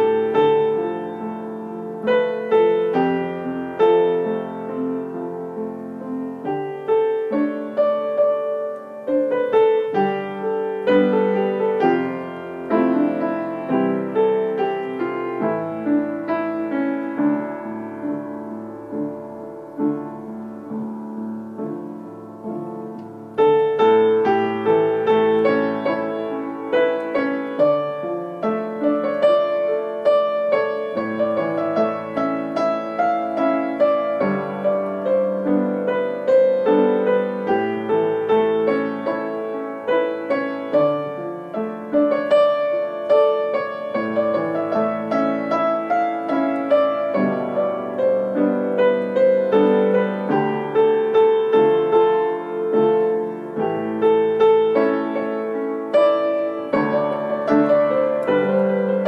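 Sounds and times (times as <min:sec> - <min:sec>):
gentle piano melody: 0:00.0 - 0:59.0.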